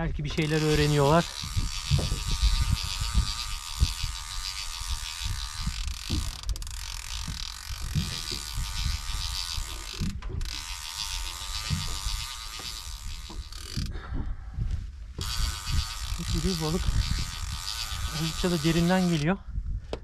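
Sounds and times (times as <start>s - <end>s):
low thumps: 0.0s - 20.0s
fishing reel clicker ticking: 0.3s - 13.9s, 15.2s - 19.4s.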